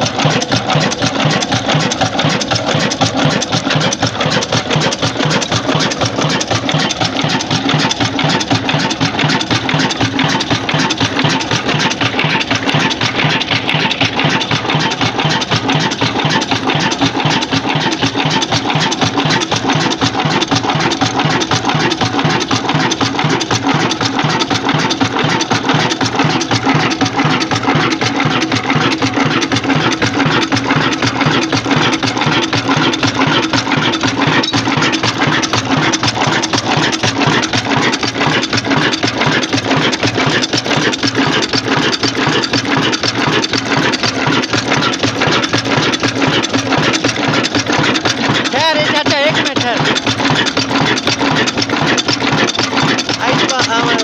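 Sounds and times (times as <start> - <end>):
diesel engine running steadily: 0.0 - 54.0.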